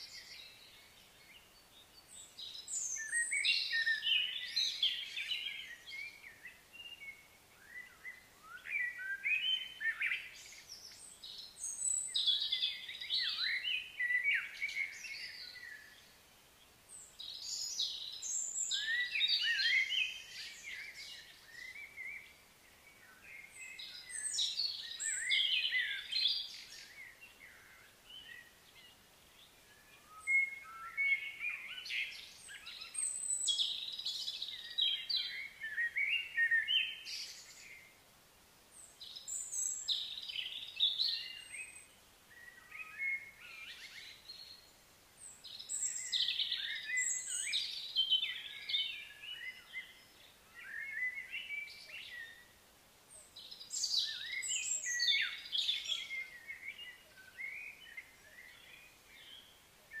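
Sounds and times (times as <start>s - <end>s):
birds singing and chirping: 0.0s - 16.2s, 16.9s - 38.0s, 38.8s - 60.0s.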